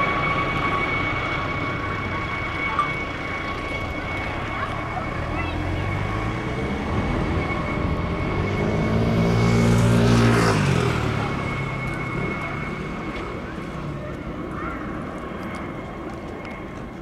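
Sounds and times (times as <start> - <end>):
helicopter passing overhead: 0.0 - 17.0
steady high whine: 0.0 - 17.0.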